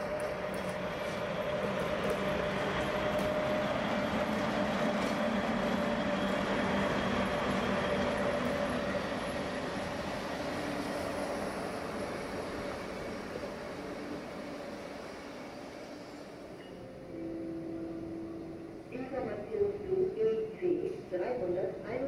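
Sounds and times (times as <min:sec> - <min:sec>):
train running: 0:00.0 - 0:21.9.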